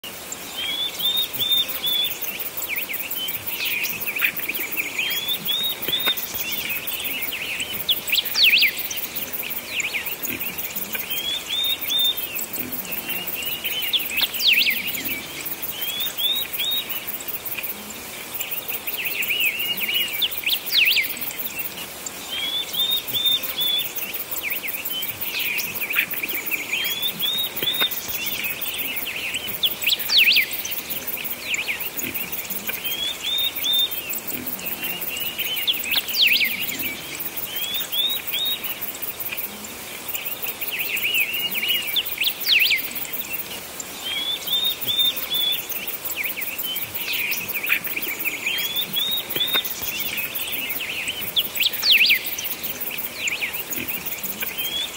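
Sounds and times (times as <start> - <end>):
small birds chirping and singing: 0.0 - 54.9.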